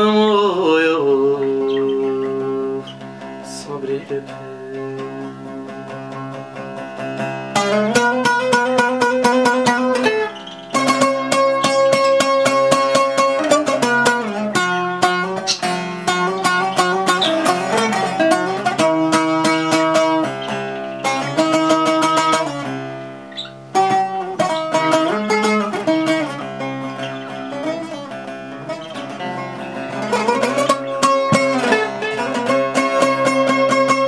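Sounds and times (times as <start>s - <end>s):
low accompaniment: 0.0s - 34.0s
plucked string melody: 0.0s - 34.0s.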